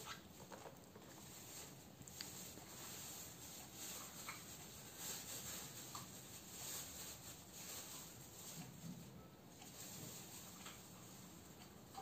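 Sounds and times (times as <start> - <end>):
birds preening feathers rustling: 0.0 - 11.3.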